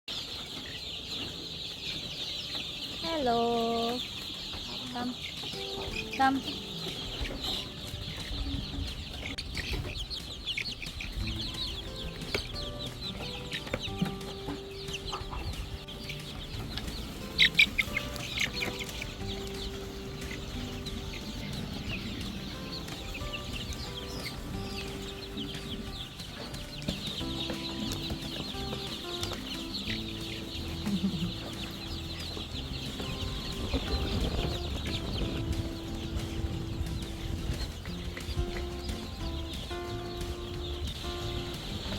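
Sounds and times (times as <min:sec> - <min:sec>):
chicks cheeping: 0:00.1 - 0:41.9.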